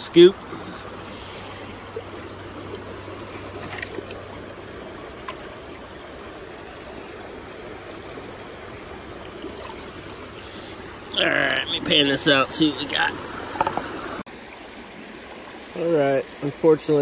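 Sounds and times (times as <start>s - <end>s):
river water swirling: 0.0s - 17.0s.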